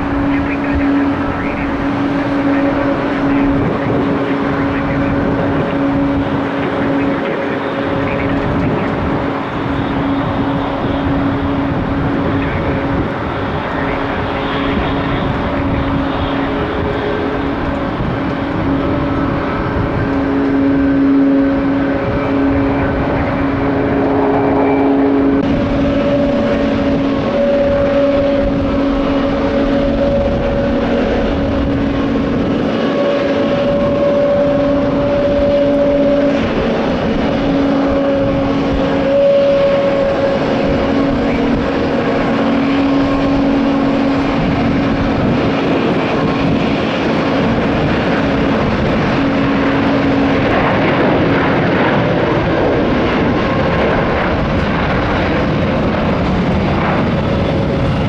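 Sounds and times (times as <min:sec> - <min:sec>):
held wavering engine tones: 0:00.0 - 0:58.0
jet engines droning: 0:00.0 - 0:58.0.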